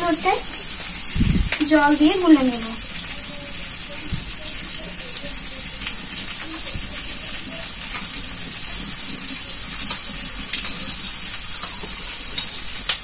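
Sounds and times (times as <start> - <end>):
beans sizzling in a wok: 0.0 - 13.0.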